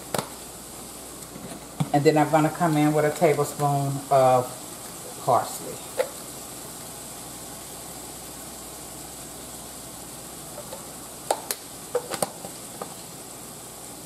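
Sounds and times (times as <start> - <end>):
meat sizzling in a skillet: 0.0 - 14.0.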